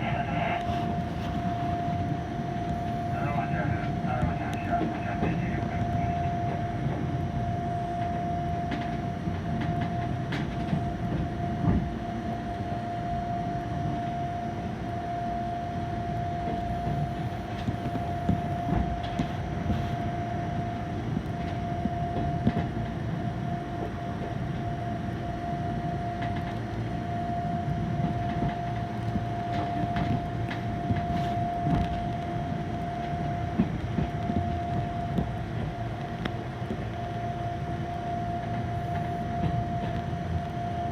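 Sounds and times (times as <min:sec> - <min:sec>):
steady high hum: 0:00.0 - 0:40.9
tram running gear rumble: 0:00.0 - 0:40.9.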